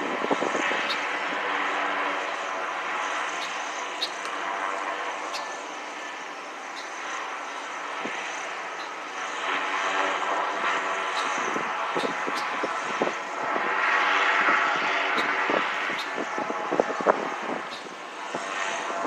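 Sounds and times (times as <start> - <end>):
airship engines droning overhead: 0.0 - 19.0.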